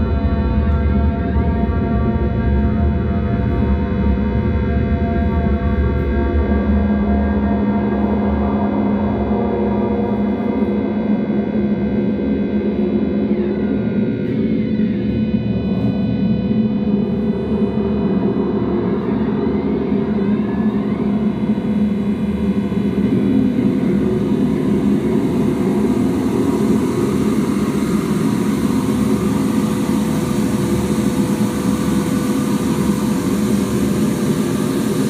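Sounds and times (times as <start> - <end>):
ambient electronic drone music: 0.0 - 35.0
electric guitar: 0.0 - 35.0.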